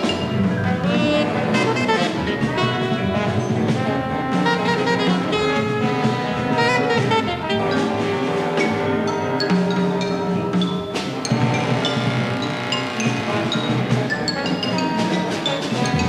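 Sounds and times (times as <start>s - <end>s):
jazz ensemble music: 0.0s - 16.0s.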